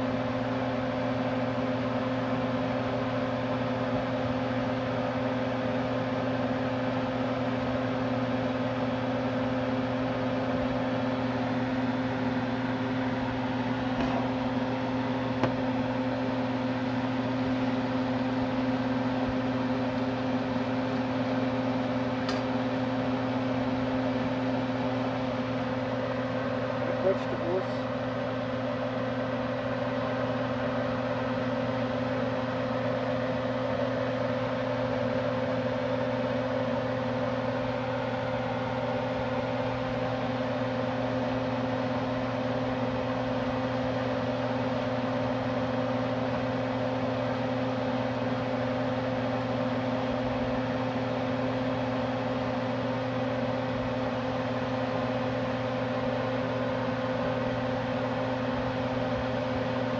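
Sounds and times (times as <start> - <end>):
range hood fan motor hum: 0.0 - 59.9.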